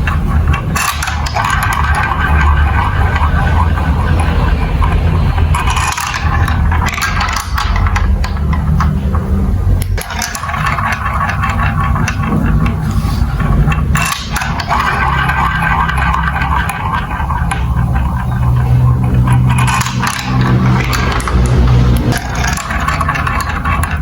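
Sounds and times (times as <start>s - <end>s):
marbles rolling through plastic run: 0.0s - 24.0s.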